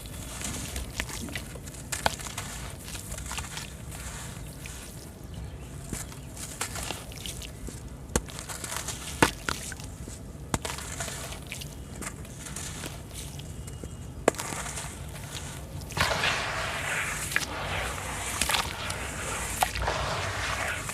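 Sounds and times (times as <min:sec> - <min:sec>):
sand-cement clumps crumbling: 0:00.0 - 0:20.9.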